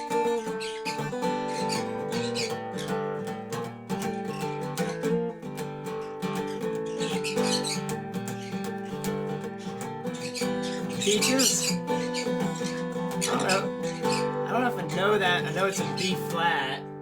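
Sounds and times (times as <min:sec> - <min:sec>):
resonator guitar blues: 0:00.0 - 0:17.0.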